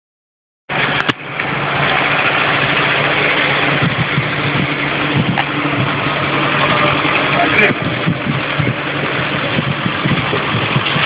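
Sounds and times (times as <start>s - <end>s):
engine humming steadily: 0.7s - 11.0s.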